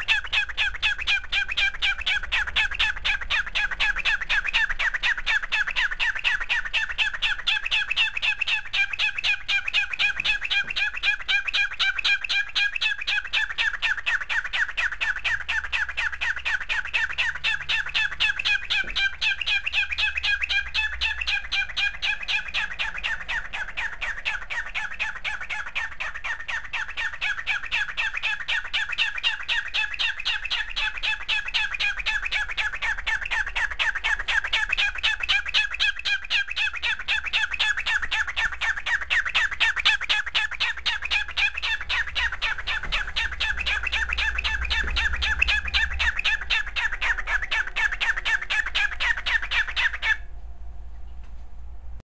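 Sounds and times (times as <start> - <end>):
cockatiel chirping rapidly: 0.0 - 50.3.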